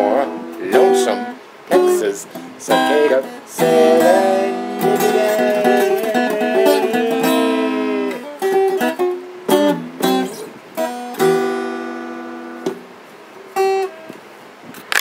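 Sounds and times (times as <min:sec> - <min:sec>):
acoustic guitar strumming: 0:00.0 - 0:12.9, 0:13.6 - 0:14.0.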